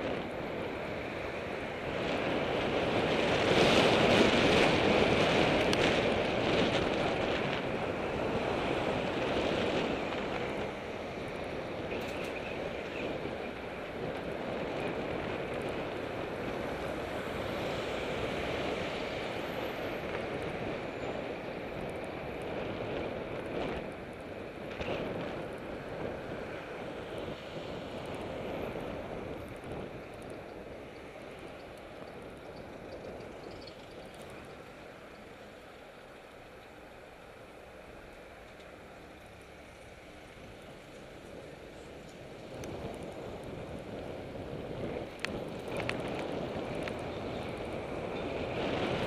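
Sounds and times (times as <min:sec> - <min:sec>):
wind rushing over microphone: 0:00.0 - 0:36.0, 0:38.2 - 0:49.0
city traffic noise: 0:00.0 - 0:49.0.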